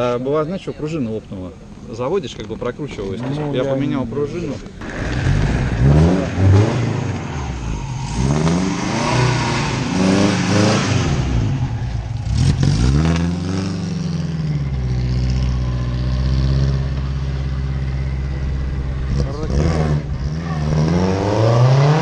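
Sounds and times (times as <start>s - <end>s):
car engine idling: 0.0s - 20.8s
car engine revving: 4.0s - 22.0s.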